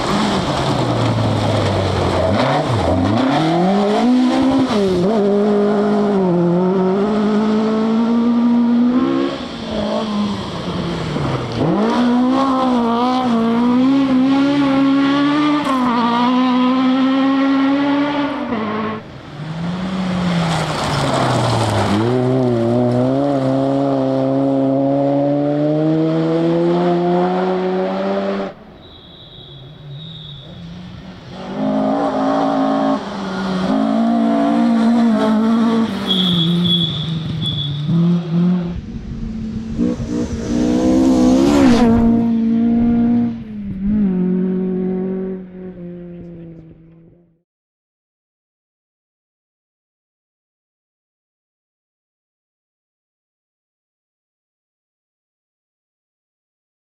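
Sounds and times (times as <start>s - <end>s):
rally car engines revving: 0.0s - 28.8s, 29.7s - 47.4s
car rushing past: 0.0s - 47.2s.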